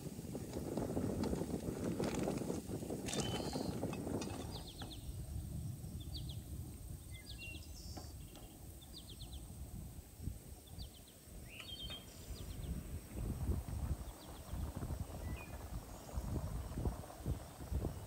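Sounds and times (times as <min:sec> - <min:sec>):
songbirds chirping: 0:02.1 - 0:18.0.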